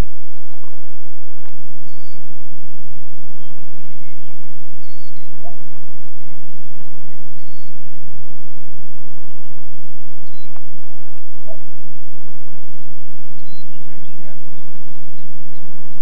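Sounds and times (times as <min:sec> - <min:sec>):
birds chirping: 0:00.0 - 0:08.3, 0:09.0 - 0:16.0
low microphone hum: 0:00.0 - 0:16.0.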